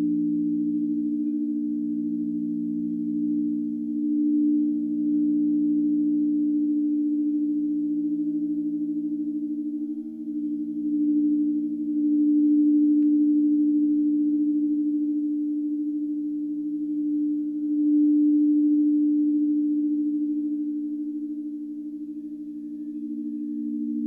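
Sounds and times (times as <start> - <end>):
crystal singing bowls ringing: 0.0 - 24.0.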